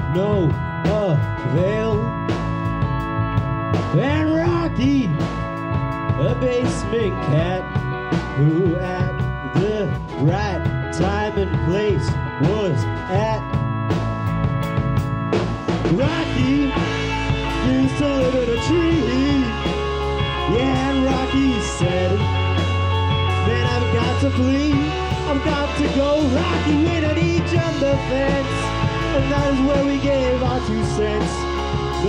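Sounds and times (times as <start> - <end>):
man singing: 0.0 - 2.4, 3.8 - 5.4, 6.0 - 13.6, 15.8 - 32.0
distorted electric guitars: 0.0 - 32.0
drum kit: 0.0 - 32.0
electric bass: 0.0 - 32.0.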